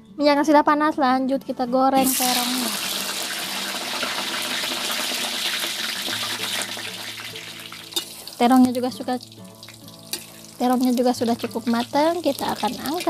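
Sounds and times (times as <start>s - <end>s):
eggplant deep-frying in oil: 2.0s - 13.0s.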